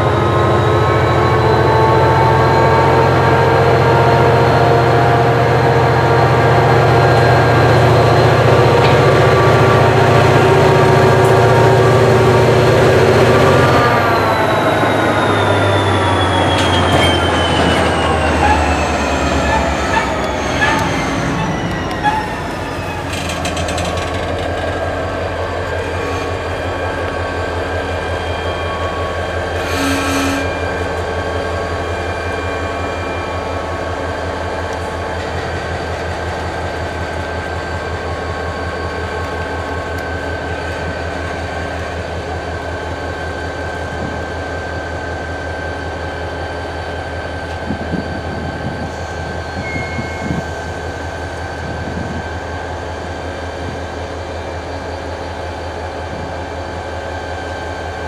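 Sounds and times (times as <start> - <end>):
diesel locomotive engines throbbing: 0.0 - 58.0.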